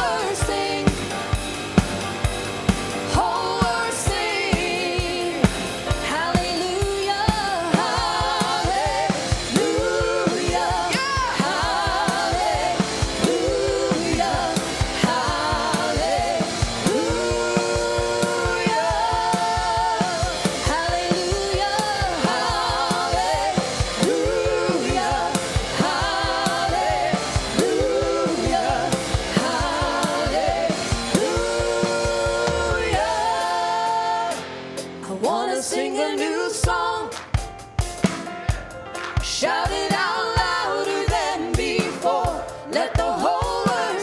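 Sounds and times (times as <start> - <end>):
singers holding long notes: 0.0 - 1.8, 2.8 - 37.1
steady drum beat: 0.0 - 35.4, 36.2 - 44.0
gospel band playing: 0.0 - 44.0.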